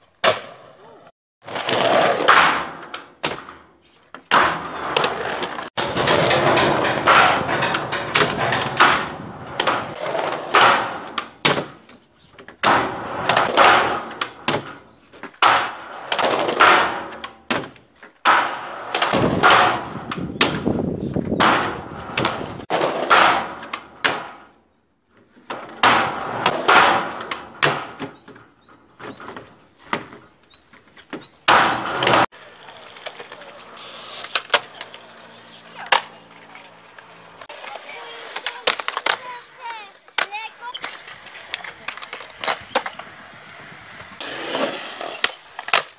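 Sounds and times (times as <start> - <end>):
skateboard wheels rolling on concrete: 0.0 - 45.9
skateboard slaps and clattering: 0.2 - 24.6, 25.3 - 45.9.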